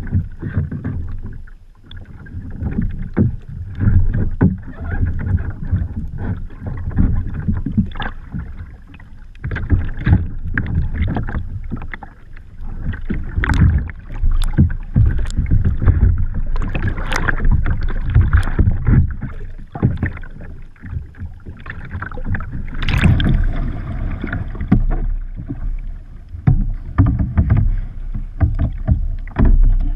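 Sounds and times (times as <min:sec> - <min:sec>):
water splashing against kayak: 0:00.0 - 0:29.9.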